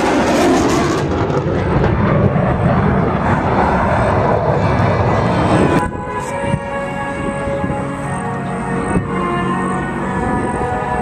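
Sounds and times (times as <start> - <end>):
jet engine roar passing: 0.0 - 11.0.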